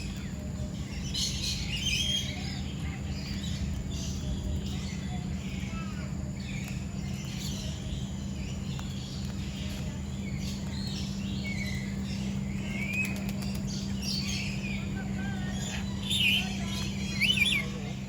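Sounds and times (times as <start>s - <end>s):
birds chirping and calling: 0.0s - 18.0s
steady low hum: 0.0s - 18.0s.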